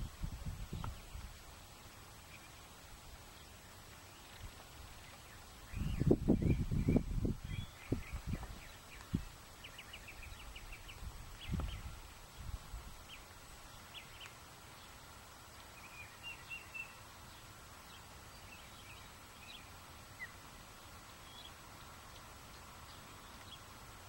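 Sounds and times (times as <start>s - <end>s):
faint background noise: 0.0s - 24.0s.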